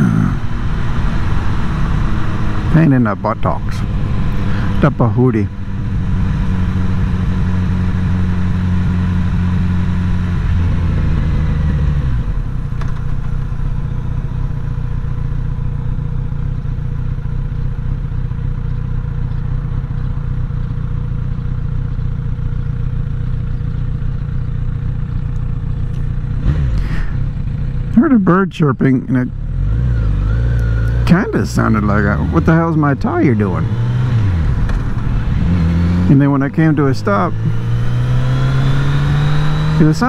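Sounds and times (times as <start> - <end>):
motorcycle engine running and idling: 0.1 - 38.1.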